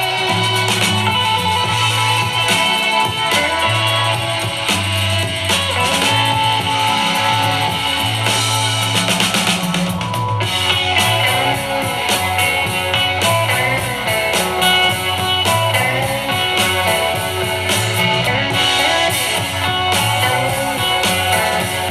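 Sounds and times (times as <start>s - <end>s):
guitar music with bass and drums: 0.0s - 21.9s.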